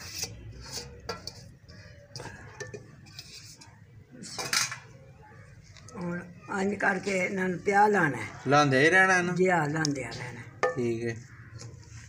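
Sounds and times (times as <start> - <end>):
metal bowls clinking and scraping: 0.0 - 8.3, 9.9 - 12.0.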